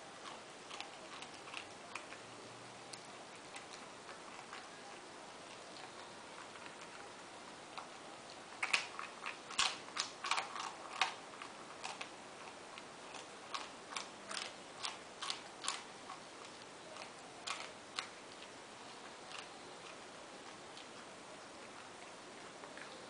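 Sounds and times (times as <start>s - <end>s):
dog crunching bread: 0.0s - 23.0s.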